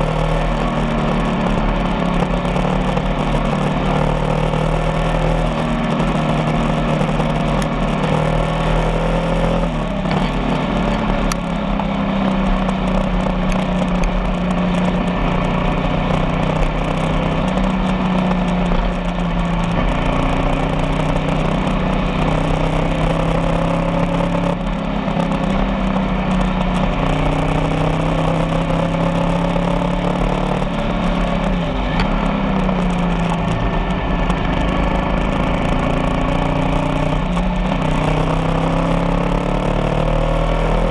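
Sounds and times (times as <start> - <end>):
motorcycle engine running: 0.0 - 40.9
road noise rush: 0.0 - 40.9.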